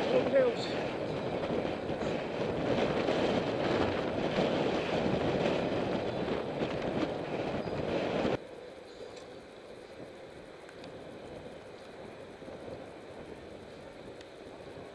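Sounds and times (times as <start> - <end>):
wind on microphone: 0.0 - 8.4, 9.8 - 14.9
bicycle tyre noise on pavement: 0.0 - 14.9.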